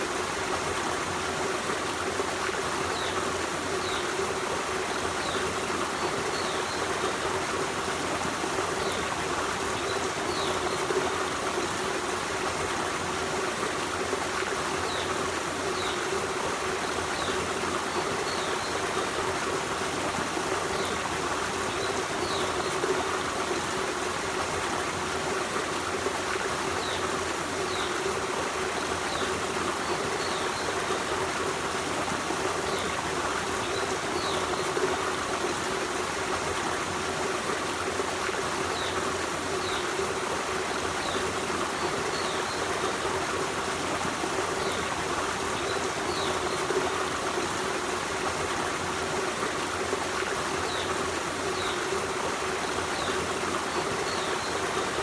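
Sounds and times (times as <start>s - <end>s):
forest stream running: 0.0s - 55.0s.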